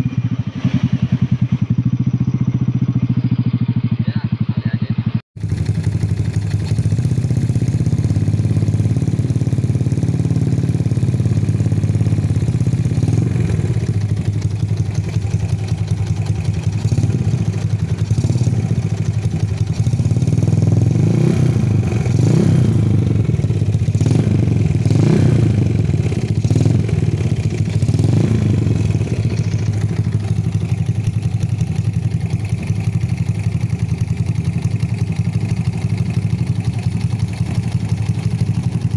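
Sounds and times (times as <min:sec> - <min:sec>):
motorcycle engine idling: 0:00.0 - 0:38.9
motorcycle throttle blips: 0:00.0 - 0:38.9.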